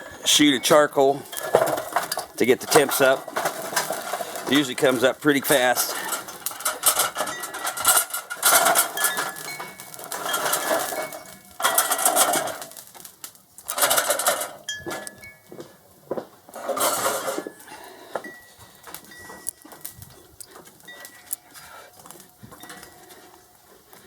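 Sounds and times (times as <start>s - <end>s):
charcoal clattering against metal: 0.3s - 24.0s.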